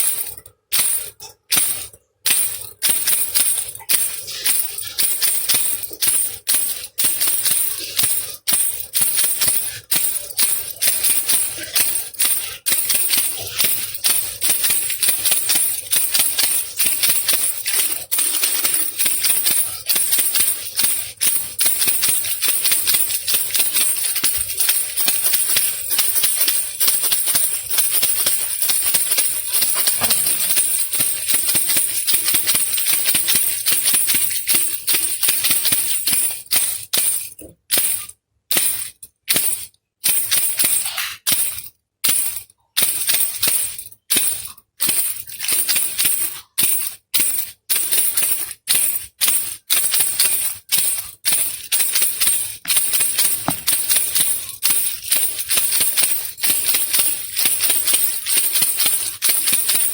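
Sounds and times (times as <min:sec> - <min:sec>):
baby rattle shaken: 0:00.0 - 0:59.9.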